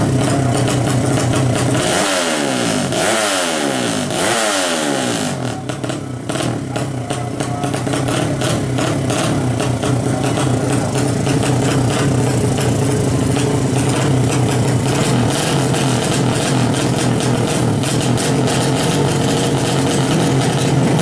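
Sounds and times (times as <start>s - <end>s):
engine crackle: 0.0s - 21.0s
motorcycle engine revving: 0.0s - 21.0s.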